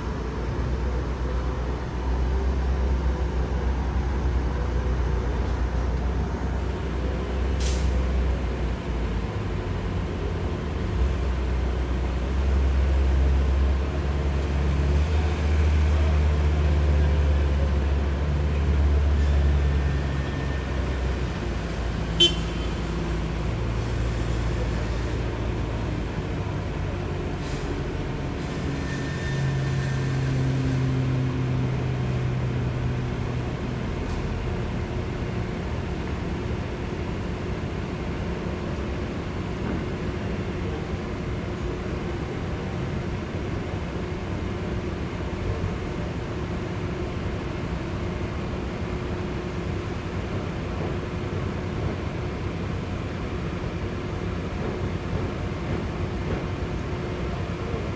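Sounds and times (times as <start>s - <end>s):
heavy diesel machinery rumbling: 0.0s - 57.9s.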